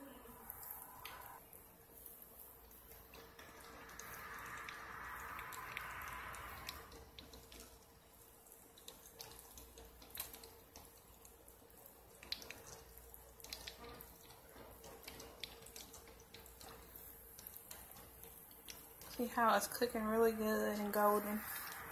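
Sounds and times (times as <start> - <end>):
oil popping and crackling: 0.5 - 21.9
fish frying in hot oil: 0.7 - 21.9.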